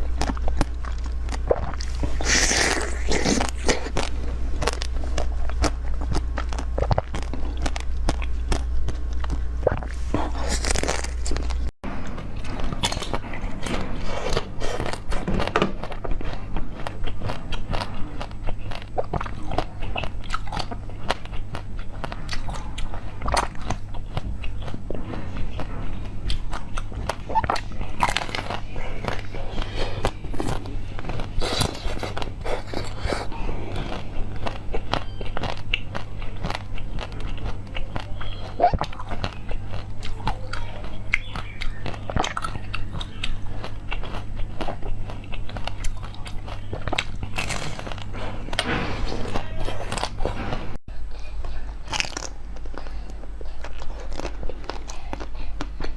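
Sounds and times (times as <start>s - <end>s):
person chewing crunchy food: 0.0s - 55.9s
steady low hum: 0.0s - 55.9s.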